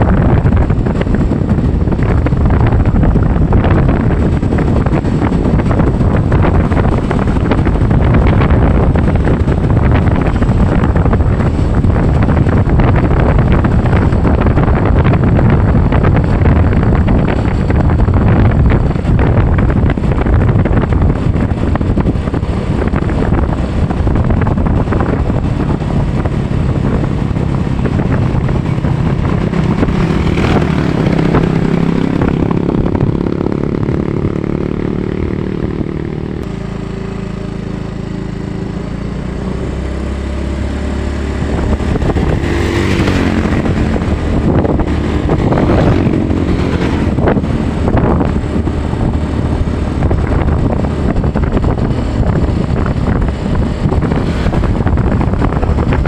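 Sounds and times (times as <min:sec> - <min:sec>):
vehicle engine running: 0:00.0 - 0:56.0
wind noise on microphone: 0:00.0 - 0:56.0.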